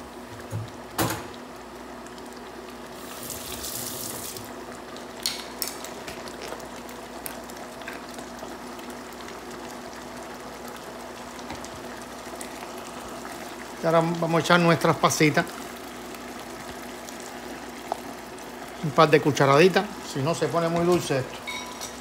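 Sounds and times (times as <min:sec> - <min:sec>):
sauce simmering and bubbling: 0:00.0 - 0:22.0.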